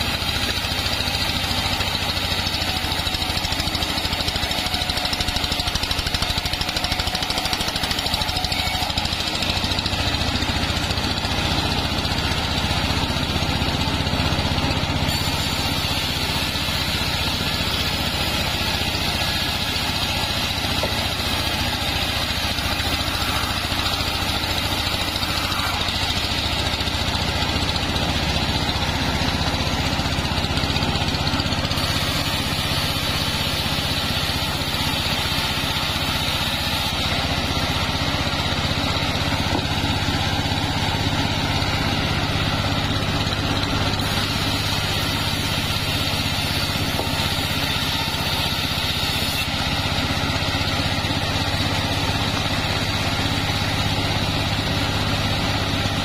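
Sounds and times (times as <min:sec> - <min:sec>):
band sawmill sawing wood: 0:00.0 - 0:56.0.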